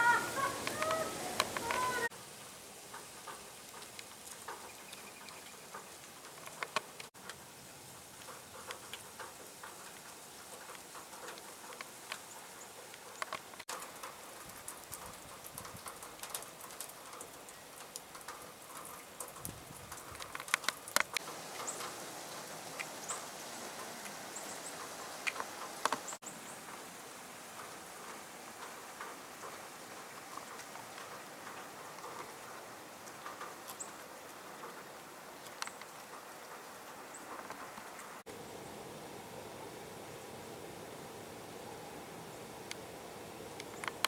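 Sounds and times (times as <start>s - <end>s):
melting snow dripping: 0.0s - 44.0s.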